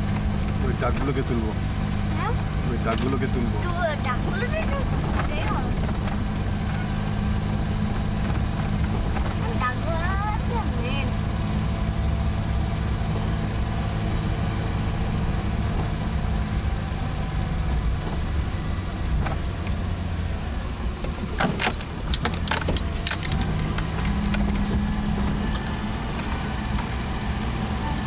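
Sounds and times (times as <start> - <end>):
vehicle engine hum: 0.0 - 28.0.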